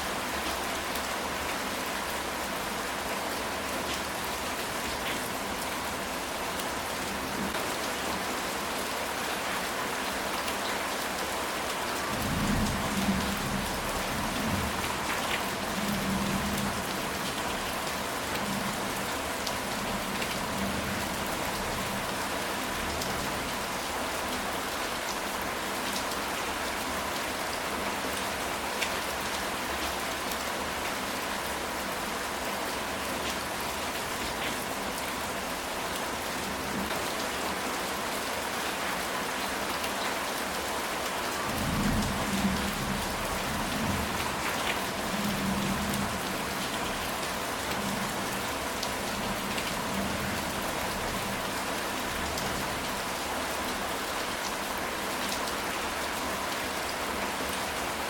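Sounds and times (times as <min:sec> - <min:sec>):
rain on a tile roof: 0:00.0 - 0:58.0.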